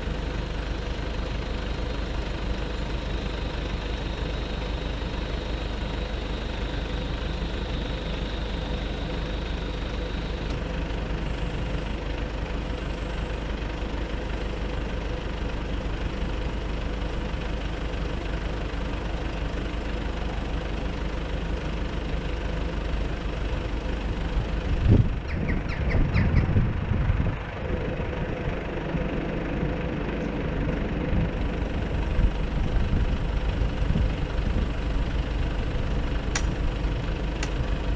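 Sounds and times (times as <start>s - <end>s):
truck engine idling: 0.0s - 37.9s.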